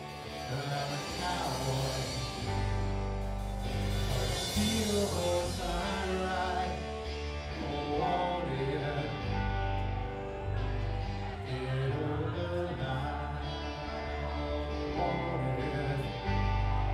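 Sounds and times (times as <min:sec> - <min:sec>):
person singing: 0:00.0 - 0:16.9
rock band playing live: 0:00.0 - 0:16.9.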